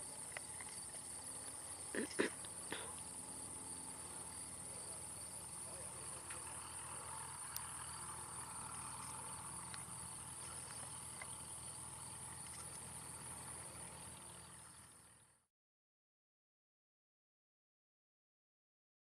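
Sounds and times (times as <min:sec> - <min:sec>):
light aircraft engine droning: 0:00.0 - 0:15.5.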